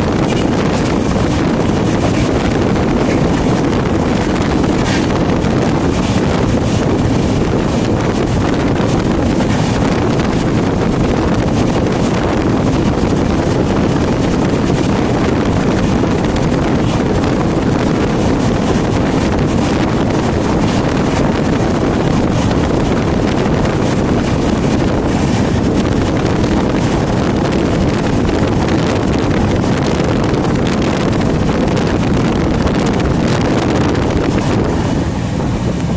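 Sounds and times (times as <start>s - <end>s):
train rumbling: 0.0s - 35.9s
wind buffeting microphone: 0.0s - 35.9s.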